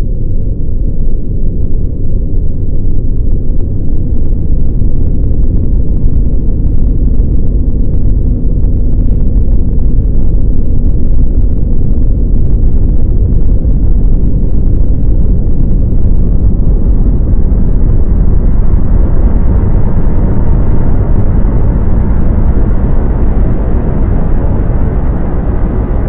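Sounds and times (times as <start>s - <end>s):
deep rumble: 0.0s - 26.0s.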